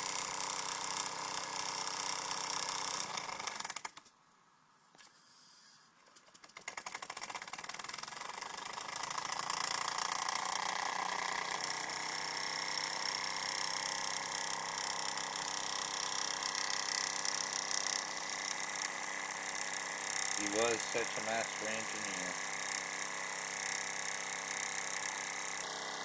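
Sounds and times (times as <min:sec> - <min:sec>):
toy steam engine whirring: 0:00.0 - 0:04.0, 0:05.2 - 0:26.0.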